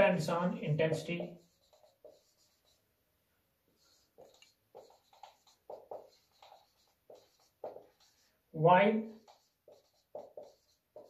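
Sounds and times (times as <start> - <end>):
marker pen writing on whiteboard: 0.0 - 2.8, 3.7 - 11.0.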